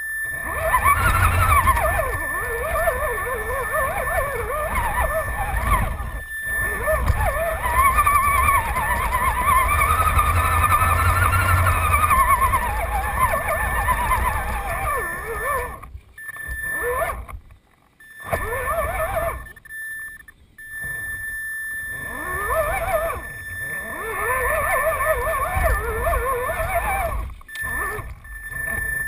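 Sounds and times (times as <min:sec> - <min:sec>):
rc car motor whining: 0:00.0 - 0:29.0.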